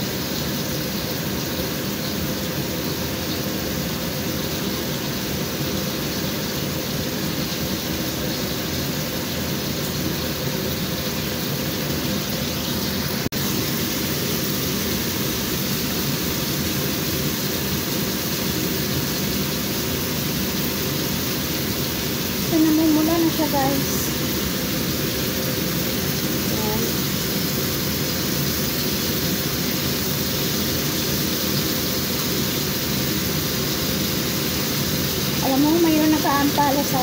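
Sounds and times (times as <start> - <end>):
chicken sizzling in oil: 0.0 - 37.0.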